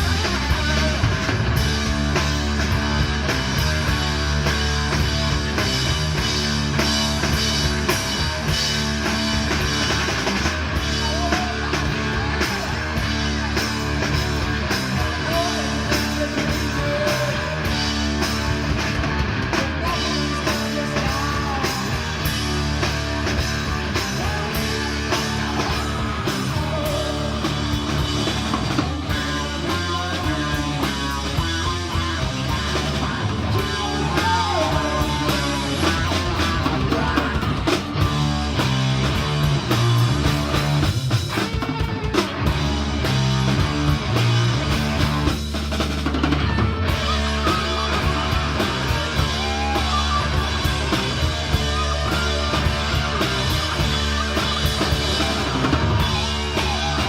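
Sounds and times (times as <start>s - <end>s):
rock music: 0.0s - 57.0s.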